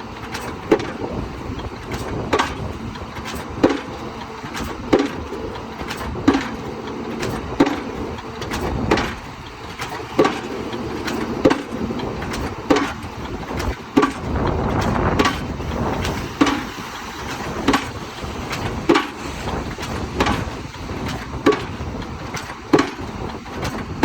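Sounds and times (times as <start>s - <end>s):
excavator engine running: 0.0s - 24.0s
hydraulic hammer striking pile: 1.9s - 24.0s.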